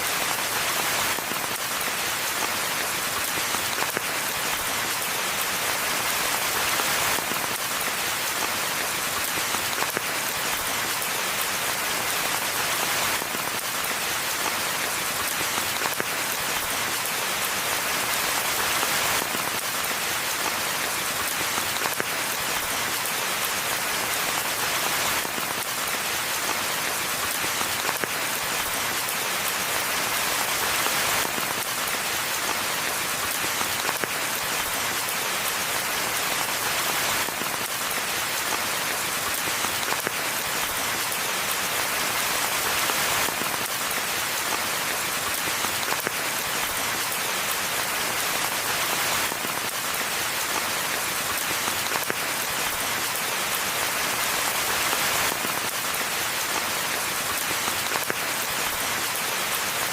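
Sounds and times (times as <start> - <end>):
steady rain in a forest: 0.0 - 59.9.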